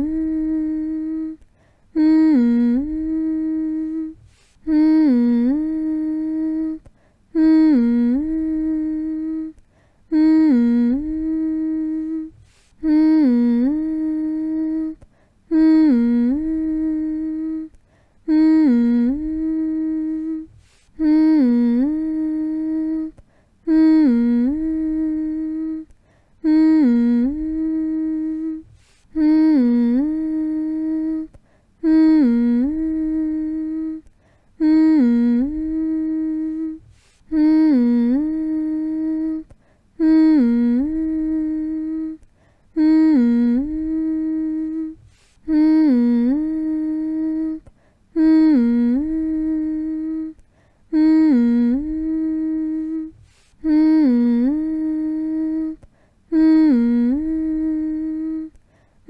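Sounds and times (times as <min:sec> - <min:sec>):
person humming: 0:00.0 - 0:58.6.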